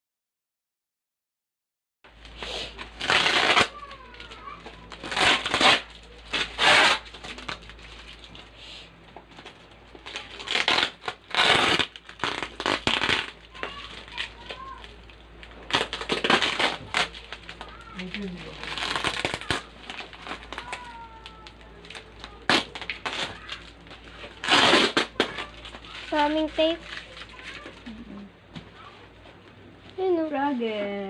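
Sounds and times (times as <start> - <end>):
parcel packaging rustling: 2.2 - 28.1.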